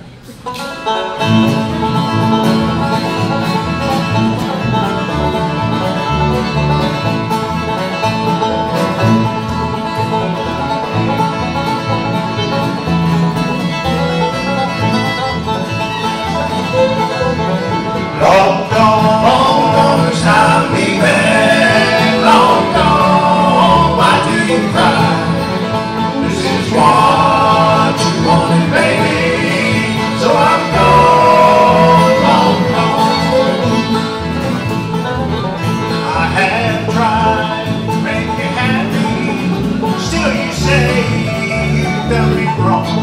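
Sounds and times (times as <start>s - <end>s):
bluegrass band playing: 0.0s - 43.0s
bending fiddle line: 0.5s - 43.0s.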